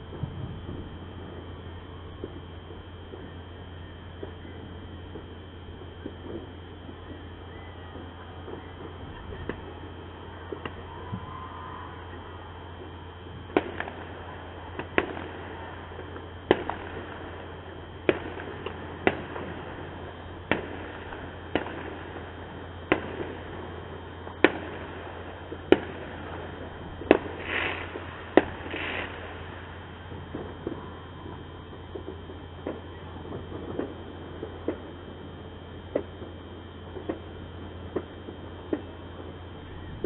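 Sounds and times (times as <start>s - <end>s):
fireworks bangs: 0.0s - 40.0s
hissing crackles: 0.0s - 40.0s.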